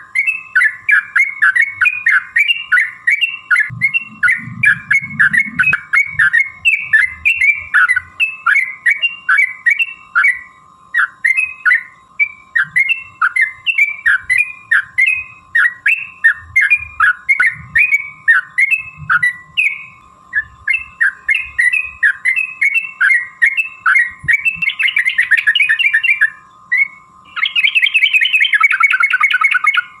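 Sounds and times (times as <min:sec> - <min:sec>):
bulbul chirping song and trill: 0:00.0 - 0:30.0.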